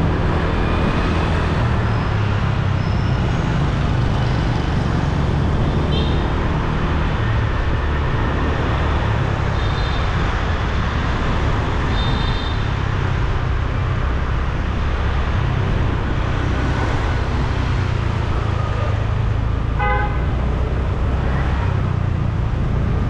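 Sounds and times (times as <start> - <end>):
road and wind noise: 0.0 - 23.0
surrounding traffic: 0.0 - 23.0.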